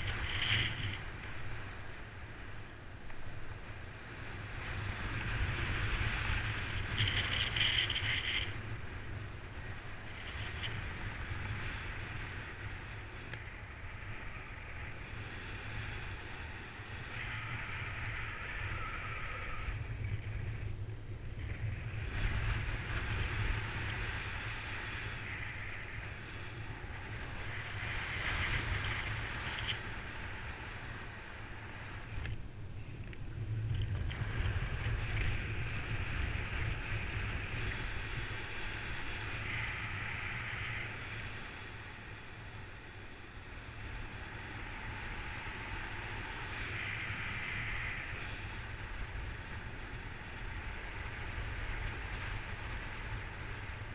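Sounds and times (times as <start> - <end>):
wind noise on microphone: 0.0 - 53.9.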